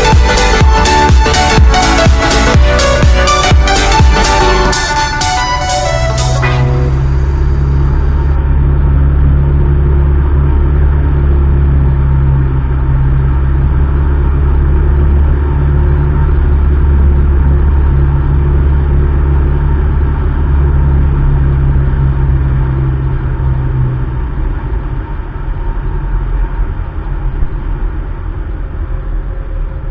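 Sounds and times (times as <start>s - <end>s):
propeller plane engine droning: 0.0s - 29.9s.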